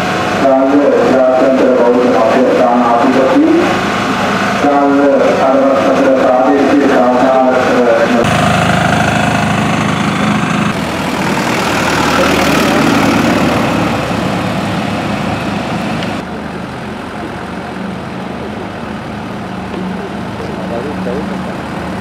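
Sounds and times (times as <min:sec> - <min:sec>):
trucks driving past: 0:00.0 - 0:22.0.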